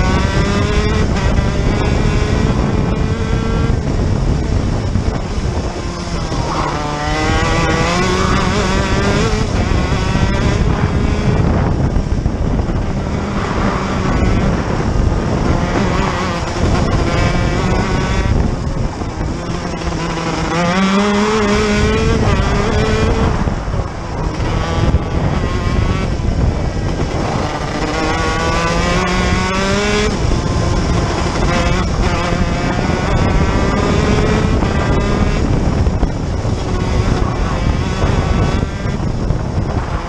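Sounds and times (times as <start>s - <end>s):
kart engine revving: 0.0s - 40.0s.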